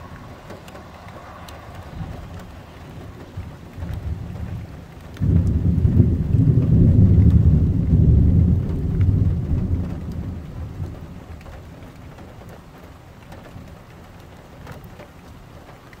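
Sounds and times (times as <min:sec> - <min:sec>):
thunder rumbling: 0:00.0 - 0:12.9.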